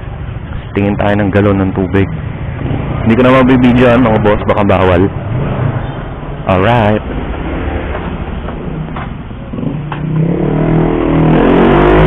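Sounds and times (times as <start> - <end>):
road traffic noise: 0.0 - 12.0
vehicle engine revving up: 2.1 - 12.0.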